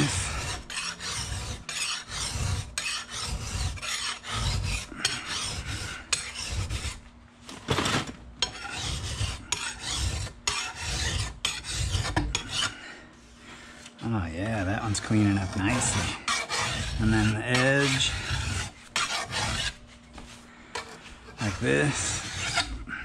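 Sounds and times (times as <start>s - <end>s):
file rasping on steel: 0.0s - 7.0s, 8.4s - 12.8s, 14.4s - 20.0s, 20.7s - 23.0s.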